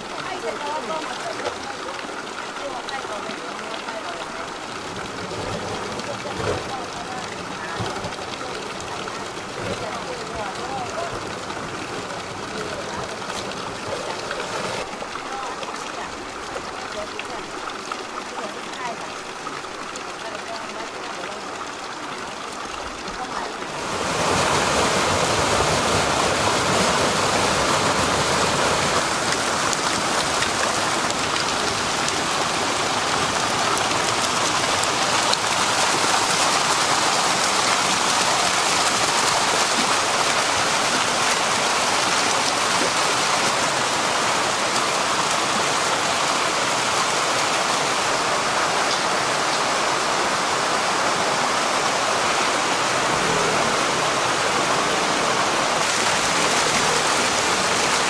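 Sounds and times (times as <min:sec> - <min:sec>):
water gushing into a tank: 0:00.0 - 0:58.0.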